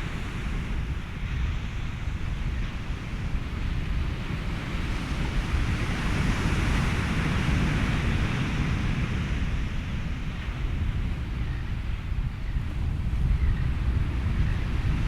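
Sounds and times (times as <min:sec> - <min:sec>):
ocean waves: 0:00.0 - 0:15.0
wind: 0:00.0 - 0:15.0.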